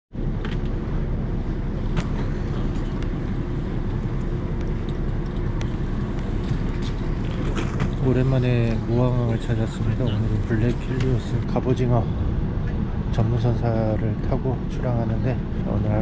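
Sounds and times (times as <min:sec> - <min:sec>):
boat engine rumbling: 0:00.2 - 0:16.0.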